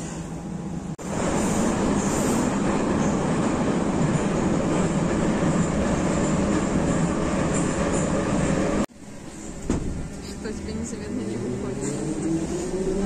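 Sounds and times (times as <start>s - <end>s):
train wheels rumbling on rails: 0.9s - 13.0s.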